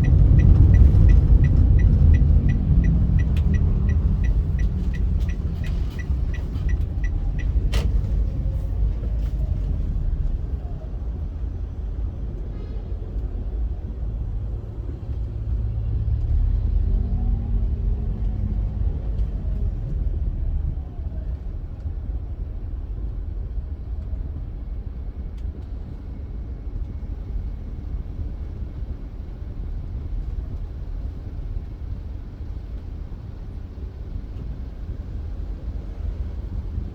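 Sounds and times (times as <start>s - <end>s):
car driving on highway: 0.0s - 36.9s.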